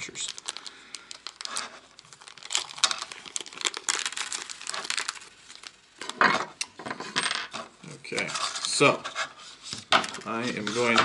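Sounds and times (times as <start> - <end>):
packets rustling and crinkling: 0.0 - 6.6, 8.1 - 11.0.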